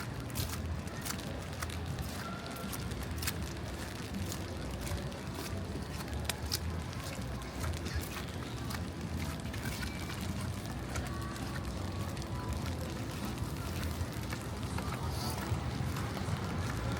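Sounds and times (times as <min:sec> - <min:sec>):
city hum: 0:00.0 - 0:16.9
footsteps: 0:00.0 - 0:16.9
murmur of voices: 0:00.0 - 0:16.9.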